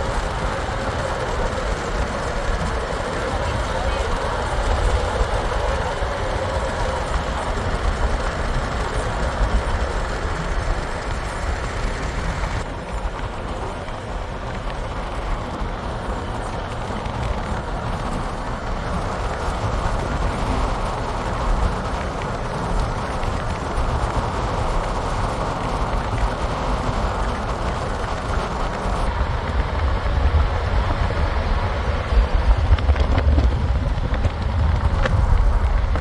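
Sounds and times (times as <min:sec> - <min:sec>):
tyre and engine rumble: 0:00.0 - 0:36.0.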